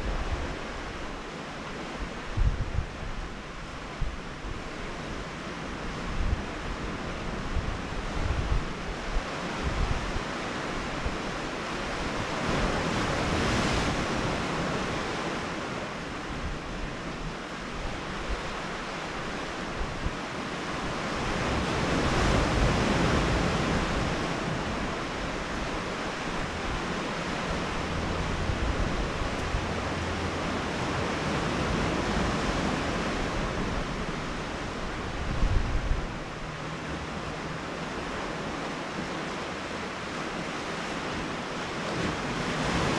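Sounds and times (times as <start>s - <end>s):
surf against rocky shore: 0.0s - 42.9s
wind buffeting microphone: 0.0s - 42.9s.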